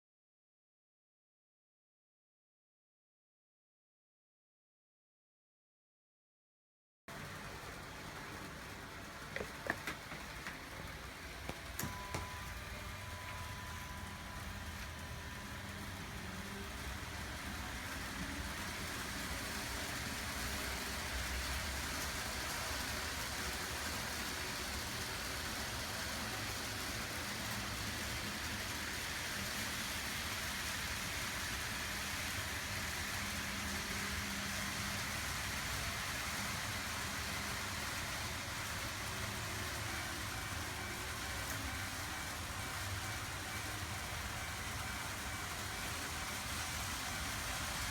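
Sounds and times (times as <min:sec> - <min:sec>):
model trains rolling rumble: 0:07.1 - 0:47.9.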